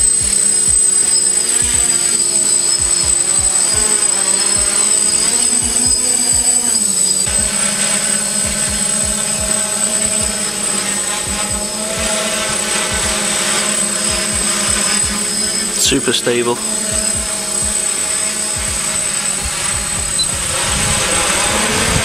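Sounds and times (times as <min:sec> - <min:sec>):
drone motors buzzing: 0:00.0 - 0:22.0.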